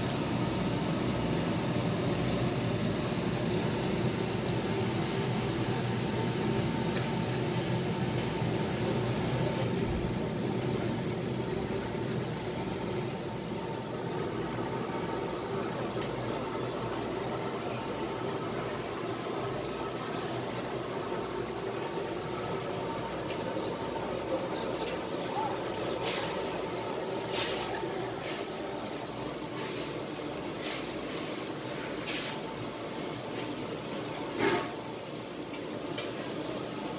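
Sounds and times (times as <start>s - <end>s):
market background hum: 0.0s - 36.9s.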